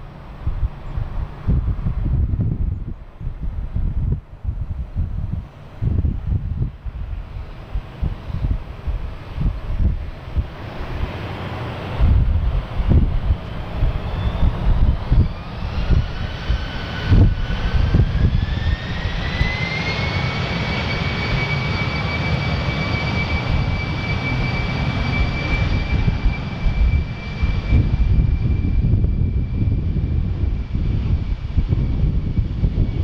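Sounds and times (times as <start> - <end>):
wind buffeting microphone: 0.0 - 33.0
jet engines spooling up: 3.3 - 33.0.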